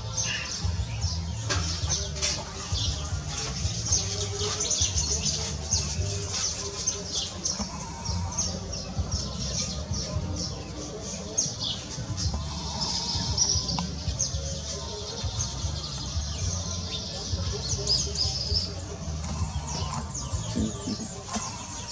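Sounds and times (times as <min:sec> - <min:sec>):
small birds chirping rapidly: 0:00.0 - 0:21.9.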